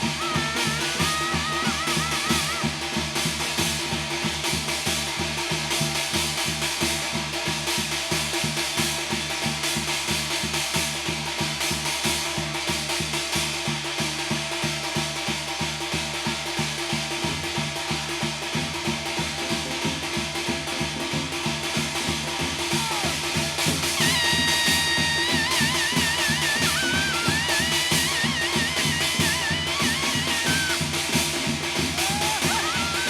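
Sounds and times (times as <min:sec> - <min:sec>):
clashing cymbals: 0:00.0 - 0:18.2, 0:21.6 - 0:33.0
fast drumming: 0:00.0 - 0:33.0.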